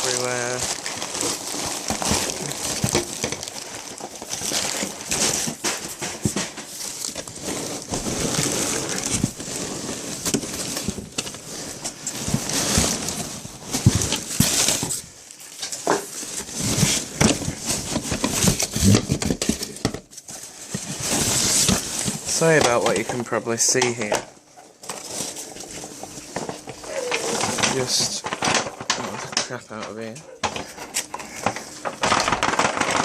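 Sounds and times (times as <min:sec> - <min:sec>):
packing peanuts rustling and crackling: 0:00.0 - 0:33.0.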